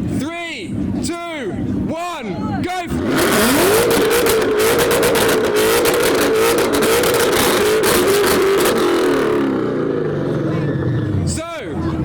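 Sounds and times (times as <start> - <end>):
car engines revving high: 0.0 - 12.0
exhaust crackles: 0.7 - 12.0.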